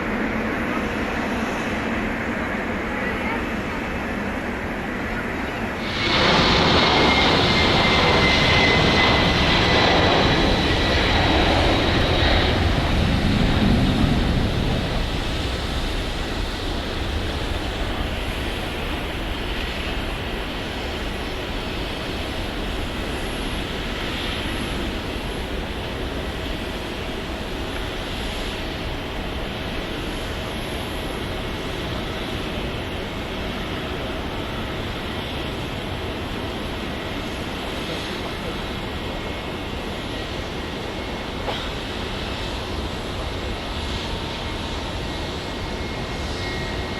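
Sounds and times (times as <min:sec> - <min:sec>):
jet engines passing with whine: 0:00.0 - 0:46.9.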